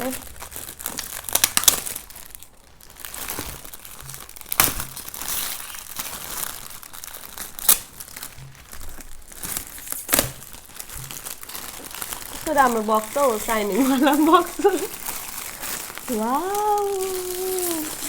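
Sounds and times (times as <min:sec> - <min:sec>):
wrapping paper crinkling: 0:00.0 - 0:18.0
paper ripping: 0:03.2 - 0:18.0.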